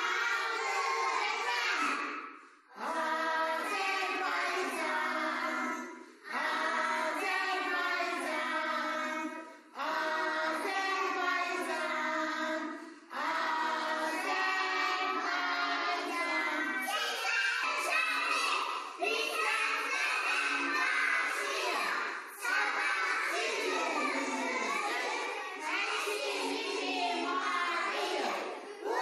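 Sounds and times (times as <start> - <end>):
children singing: 0.0 - 29.0.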